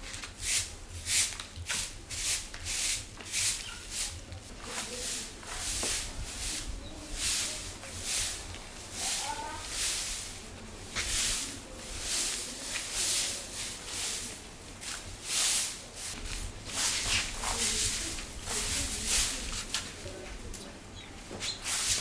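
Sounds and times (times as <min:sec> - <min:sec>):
broom sweeping: 0:00.0 - 0:20.5, 0:21.3 - 0:22.0.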